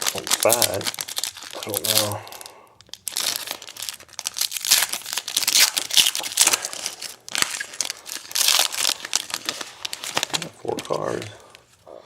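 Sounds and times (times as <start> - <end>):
card pack wrapper crinkling: 0.0 - 11.8.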